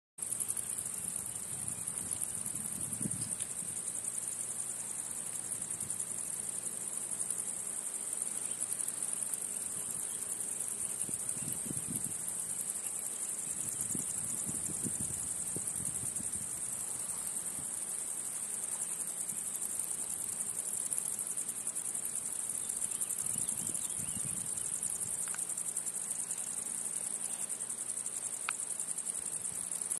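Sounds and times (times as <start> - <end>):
insects chorus: 0.2 - 30.0.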